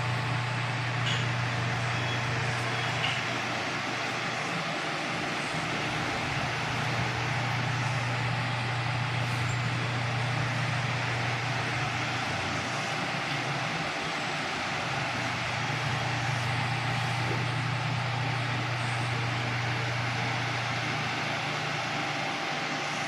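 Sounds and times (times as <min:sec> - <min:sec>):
desk fan running: 0:00.0 - 0:23.0.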